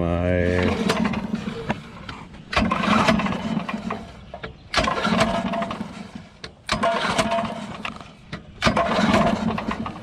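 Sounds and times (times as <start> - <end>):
recoil starter cord pulled: 0.5 - 10.0
small engine cranking without firing: 0.5 - 10.0.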